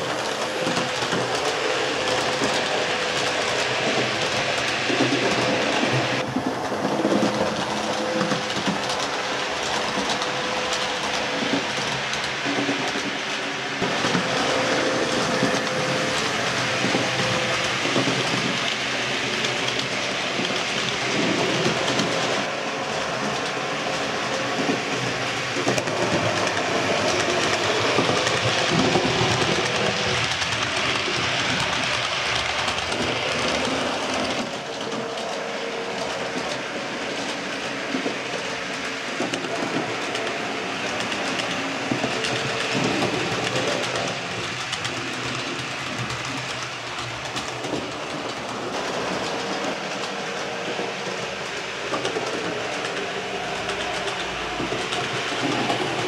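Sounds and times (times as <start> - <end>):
model train rattling on track: 0.0 - 56.0.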